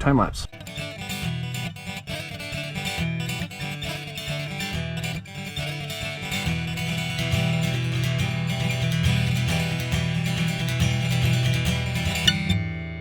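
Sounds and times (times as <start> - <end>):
acoustic guitar country music: 0.5 - 13.0.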